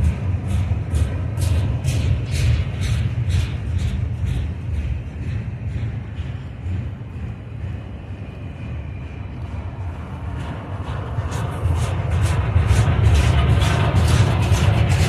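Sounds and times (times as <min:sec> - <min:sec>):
freight train cars rolling: 0:00.0 - 0:15.0
wind buffeting microphone: 0:00.0 - 0:15.0.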